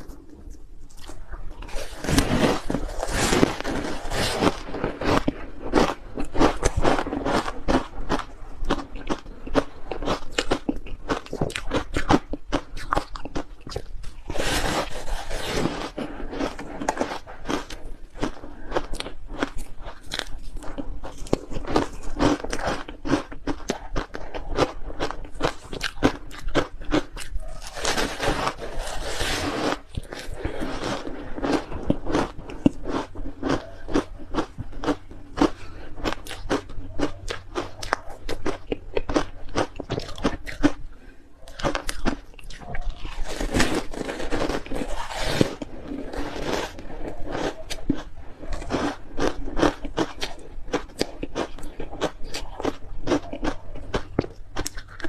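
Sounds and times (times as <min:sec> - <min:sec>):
ice crunched between teeth: 0:00.0 - 0:40.9, 0:41.5 - 0:55.0.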